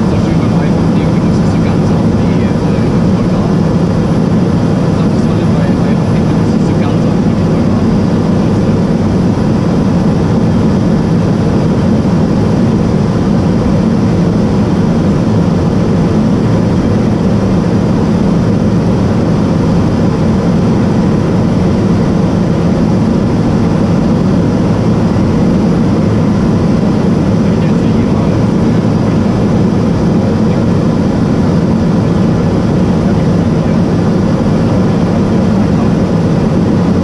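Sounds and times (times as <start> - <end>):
turboprop engine cabin drone: 0.0 - 37.0.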